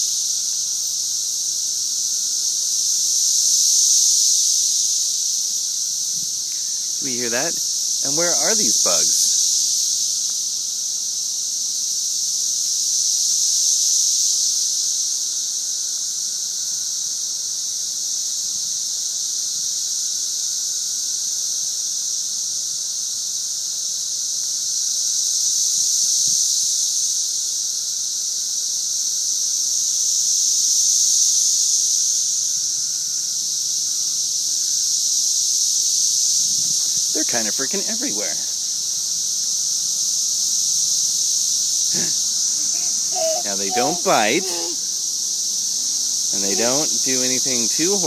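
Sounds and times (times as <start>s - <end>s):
cicadas chorus drone: 0.0s - 48.0s.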